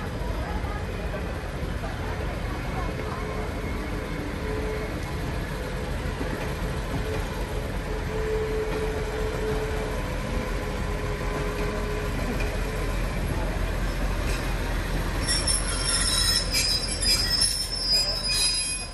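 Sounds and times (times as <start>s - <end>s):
diesel railcar rumble: 0.0s - 18.9s.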